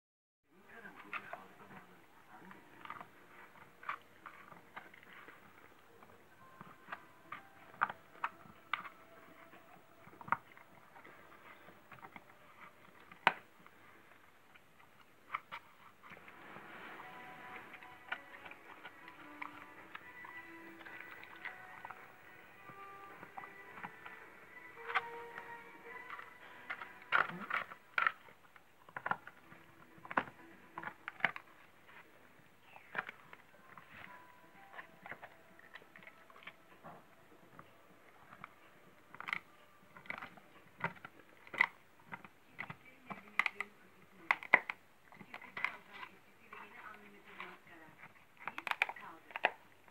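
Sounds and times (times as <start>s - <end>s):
dog gnawing a chew: 0.7s - 49.9s.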